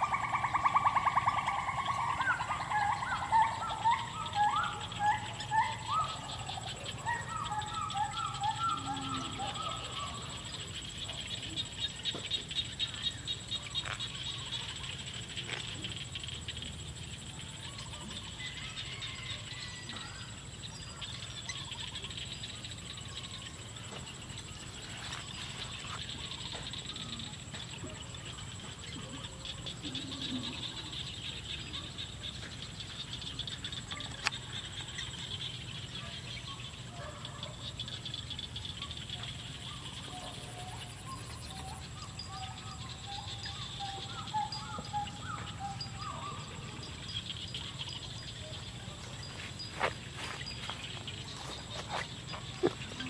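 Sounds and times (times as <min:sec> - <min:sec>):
constant thin high tone: 0:00.0 - 0:53.0
faint chirps: 0:00.0 - 0:53.0
rapid rattling animal chorus: 0:00.0 - 0:53.0.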